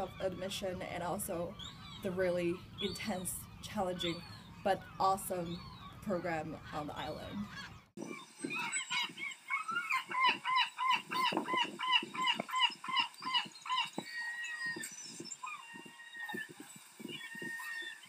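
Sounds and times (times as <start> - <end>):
gulls calling: 0.0 - 18.0.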